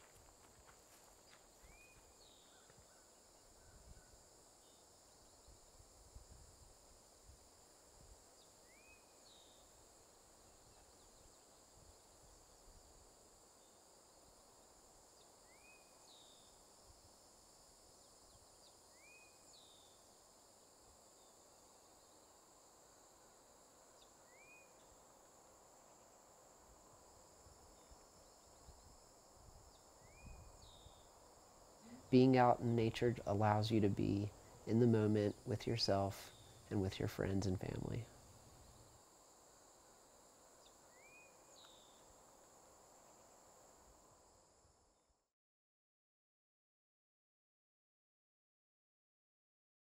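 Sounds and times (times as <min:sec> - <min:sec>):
insects droning: 0:00.0 - 0:45.2.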